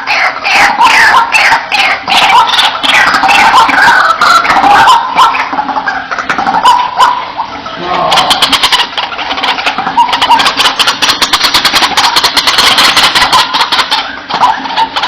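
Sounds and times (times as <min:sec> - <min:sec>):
waterhen clicking and croaking: 0:00.0 - 0:15.0.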